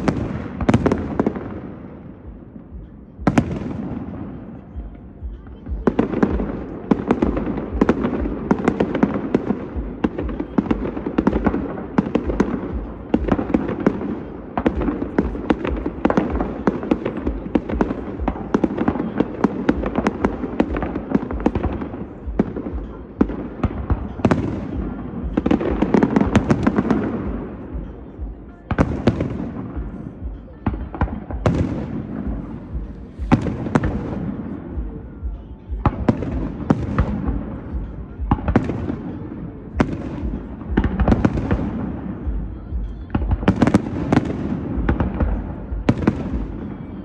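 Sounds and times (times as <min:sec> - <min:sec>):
fireworks cracks and bangs: 0:00.0 - 0:47.0.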